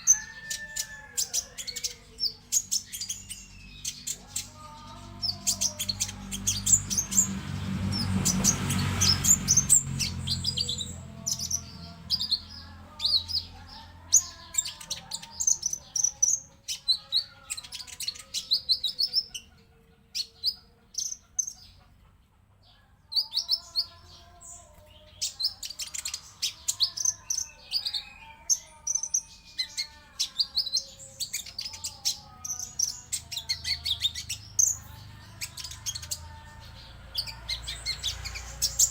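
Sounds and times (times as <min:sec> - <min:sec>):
bird twittering and trilling: 0:00.0 - 0:21.9, 0:23.1 - 0:38.9.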